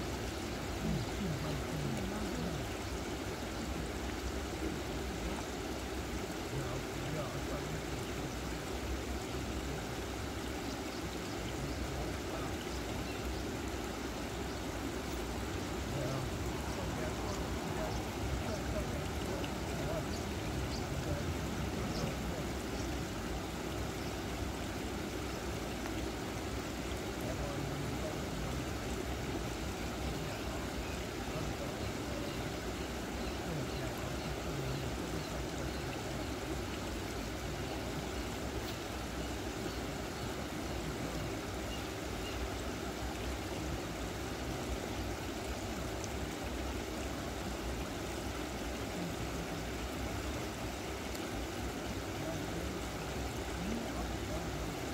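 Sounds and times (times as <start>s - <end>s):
water running through spillway: 0.0s - 54.9s.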